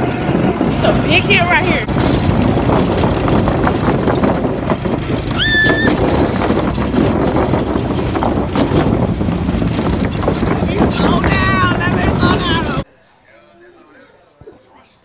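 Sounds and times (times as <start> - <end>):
go-kart engine running: 0.0 - 12.8
tyres clattering over wooden planks: 0.5 - 12.8.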